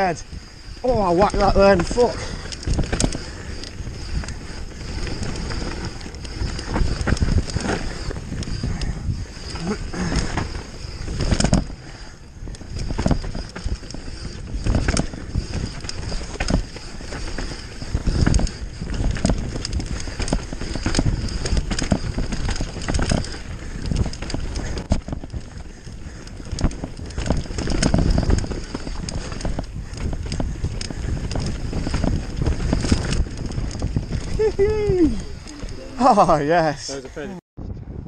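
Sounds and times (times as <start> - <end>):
bike rattling over bumps: 0.0 - 37.0
bike tyres rushing on dirt: 0.0 - 37.3.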